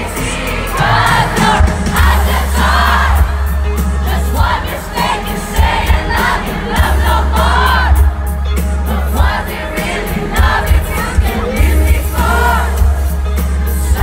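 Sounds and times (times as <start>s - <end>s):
crowd singing along: 0.0s - 14.0s
lead vocal singing: 0.0s - 14.0s
pop band playing: 0.0s - 14.0s.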